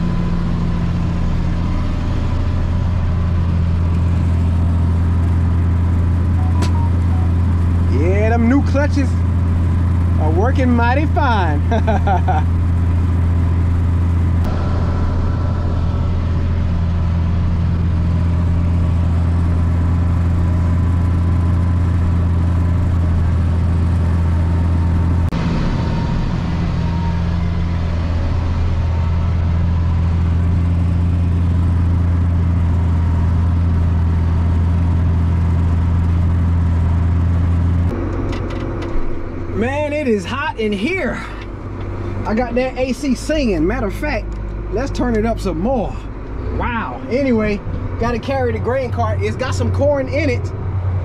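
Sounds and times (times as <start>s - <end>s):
tractor engine drone: 0.0s - 51.0s.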